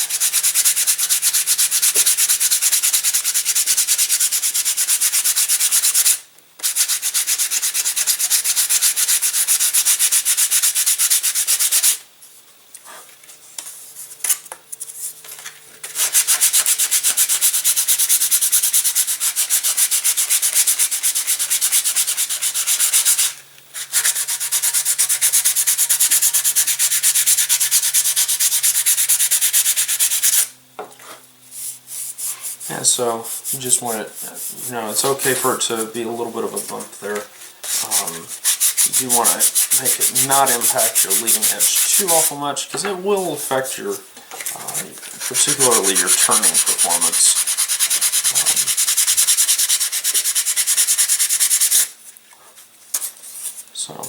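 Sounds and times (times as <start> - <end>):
sandpaper rubbing on wood: 0.0 - 12.0, 15.9 - 30.5, 31.5 - 36.9, 37.6 - 42.4, 43.2 - 51.9.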